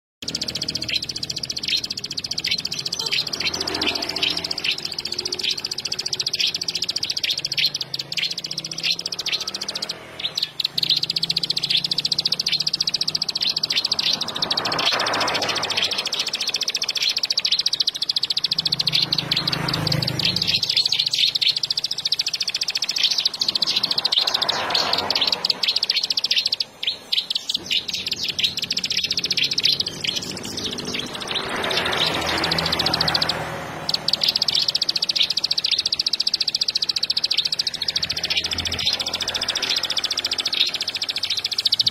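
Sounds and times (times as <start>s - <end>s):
bird singing rapid chirps: 0.2s - 41.9s.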